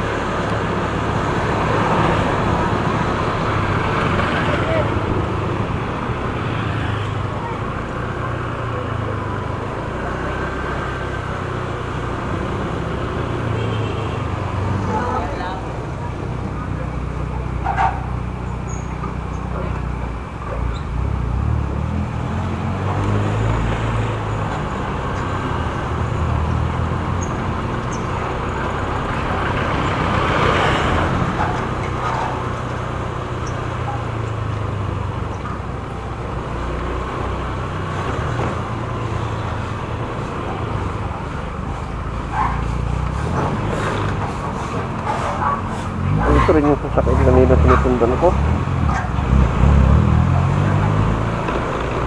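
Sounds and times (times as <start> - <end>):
motorcycle engine and road noise: 0.0 - 52.0.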